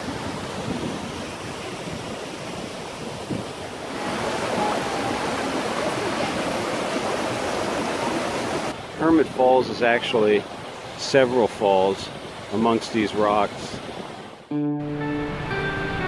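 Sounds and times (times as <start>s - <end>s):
creek water rushing: 0.0s - 14.5s.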